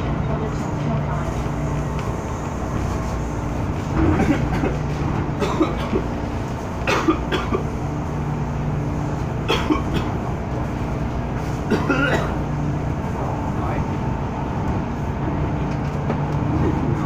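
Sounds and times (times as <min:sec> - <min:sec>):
train rumble inside car: 0:00.0 - 0:17.0.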